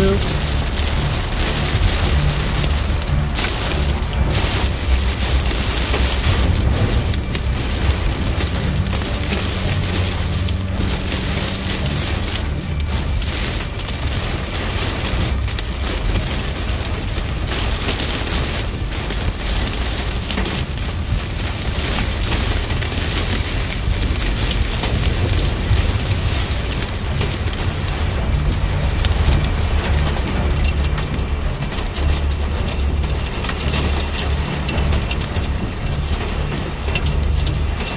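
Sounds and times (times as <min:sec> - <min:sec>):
car driving on wet road: 0:00.0 - 0:37.9
heavy rain on car: 0:00.0 - 0:37.9.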